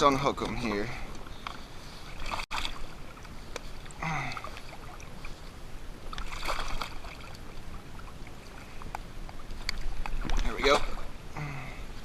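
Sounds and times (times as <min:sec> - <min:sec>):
water sloshing against kayak: 0:00.0 - 0:12.0
splashing and handling noise: 0:00.1 - 0:11.1.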